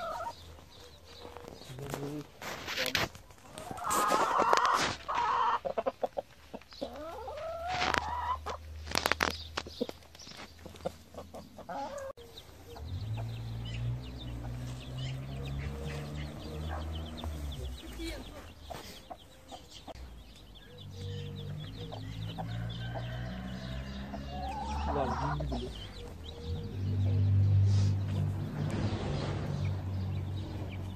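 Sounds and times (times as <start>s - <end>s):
chickens clucking: 0.0s - 30.9s.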